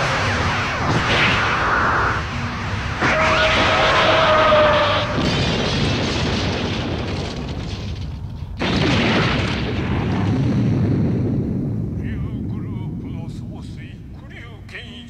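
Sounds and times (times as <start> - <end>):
explosions: 0.0 - 13.6.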